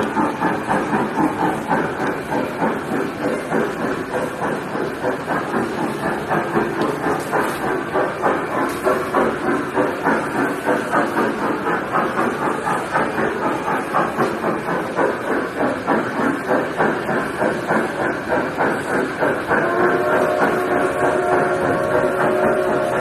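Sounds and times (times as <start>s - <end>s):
recorded steam locomotive chuffing: 0.0s - 23.0s.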